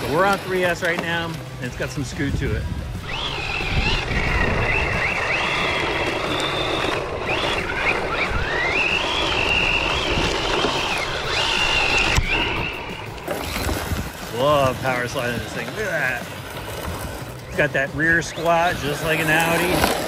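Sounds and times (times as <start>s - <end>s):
electric motor whining: 2.9s - 20.0s.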